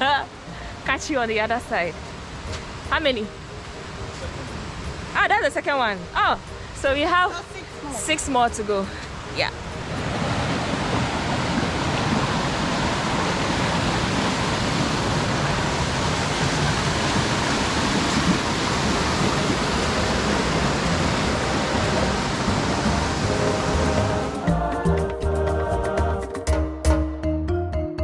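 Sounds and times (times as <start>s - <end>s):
stream water rushing: 0.0s - 25.2s.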